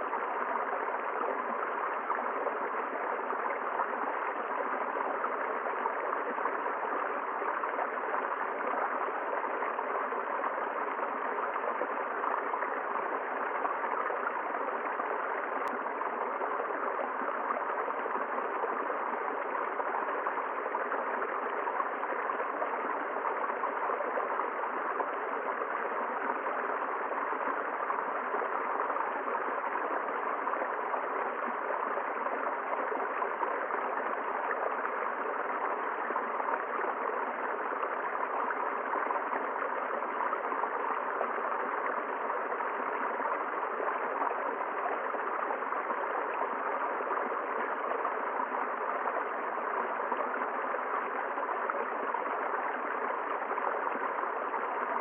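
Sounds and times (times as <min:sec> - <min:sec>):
river water gurgling: 0:00.0 - 0:55.0.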